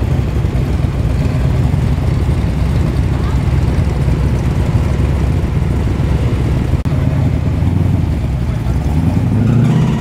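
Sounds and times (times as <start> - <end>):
car engine driving in: 0.0 - 10.0
car engines rumbling: 0.0 - 10.0.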